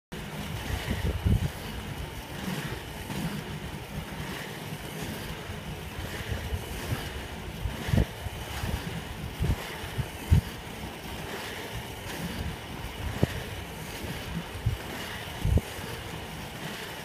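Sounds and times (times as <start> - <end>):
steady low rumble: 0.1 - 17.0
wind buffeting microphone: 0.2 - 17.0.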